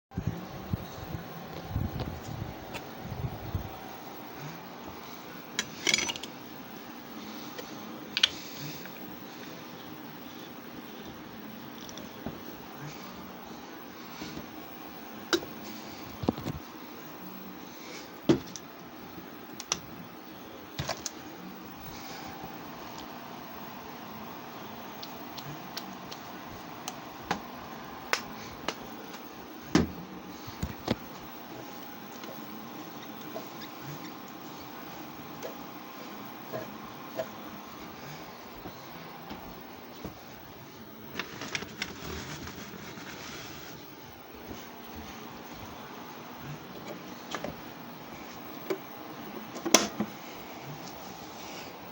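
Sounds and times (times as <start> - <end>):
faint hum: 0.1 - 51.9.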